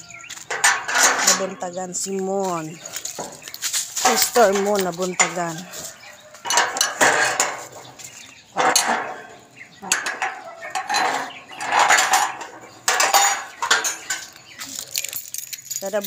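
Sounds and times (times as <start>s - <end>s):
metal jingling and clinking: 0.0s - 16.0s.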